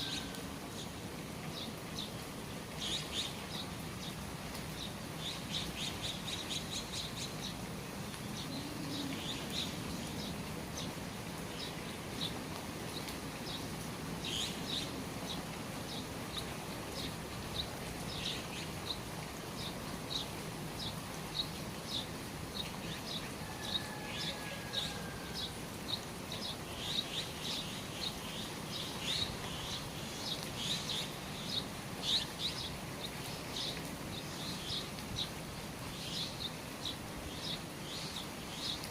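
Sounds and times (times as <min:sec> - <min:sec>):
rain falling: 0:00.0 - 0:38.9
small birds chirping: 0:00.0 - 0:38.9.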